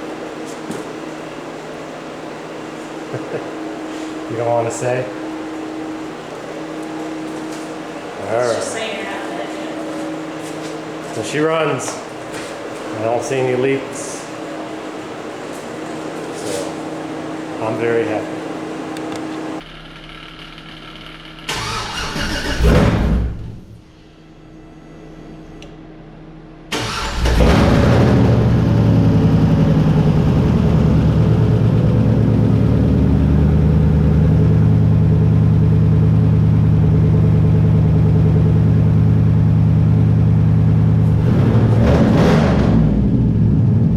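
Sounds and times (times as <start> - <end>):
car engine idling: 0.0 - 22.4, 26.7 - 43.9.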